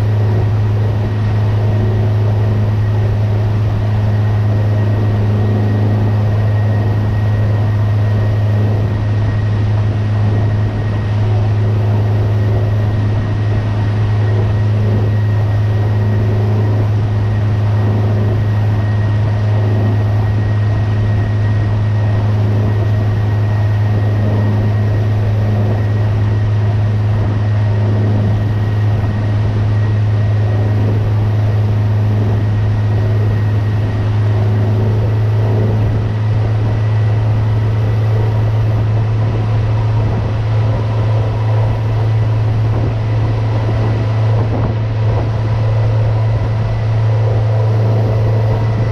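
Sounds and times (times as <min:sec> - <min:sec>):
outboard motor droning: 0:00.0 - 0:48.9.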